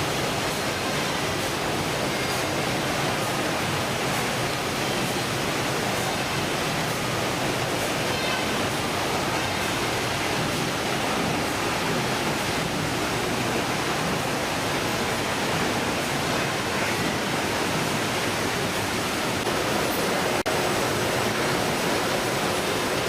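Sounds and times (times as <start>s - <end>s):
steady rushing hiss: 0.0s - 23.0s.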